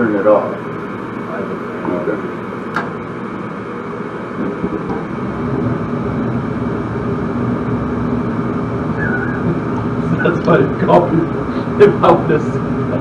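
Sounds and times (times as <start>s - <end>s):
furnace motor humming: 0.0s - 13.0s.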